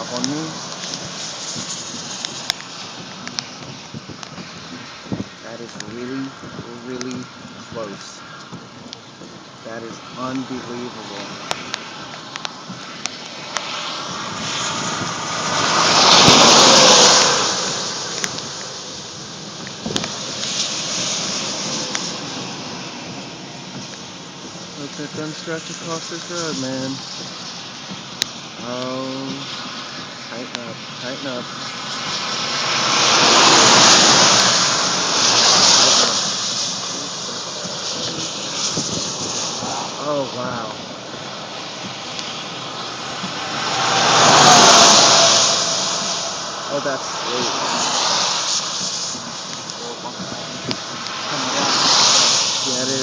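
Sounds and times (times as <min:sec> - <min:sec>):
vehicle passing close by: 0:09.7 - 0:27.9, 0:28.7 - 0:53.0.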